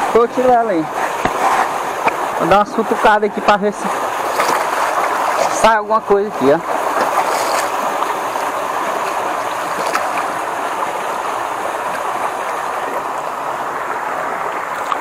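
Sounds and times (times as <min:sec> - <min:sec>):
stream water splashing: 0:00.0 - 0:15.0.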